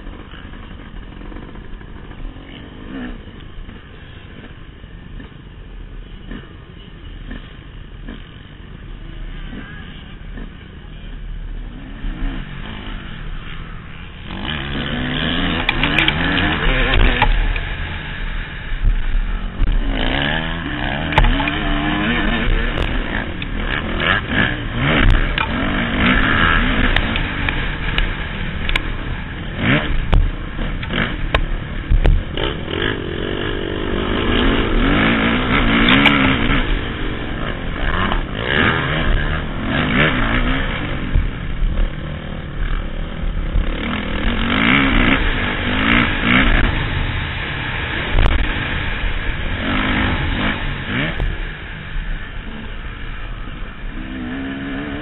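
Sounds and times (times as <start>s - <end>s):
motocross engine revving: 0.0s - 5.4s, 6.1s - 55.0s.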